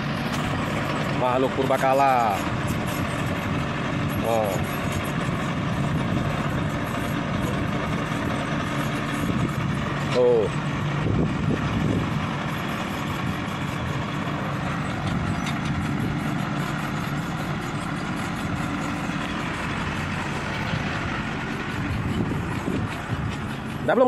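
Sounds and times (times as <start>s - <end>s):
heavy machinery engine running: 0.0s - 24.0s.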